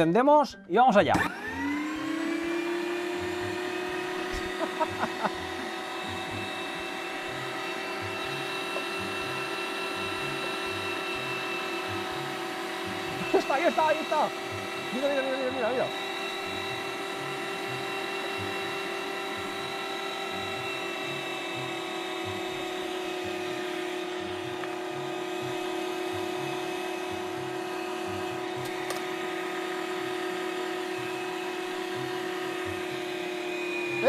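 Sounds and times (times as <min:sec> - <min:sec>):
electric meat grinder whining: 0:01.1 - 0:34.0.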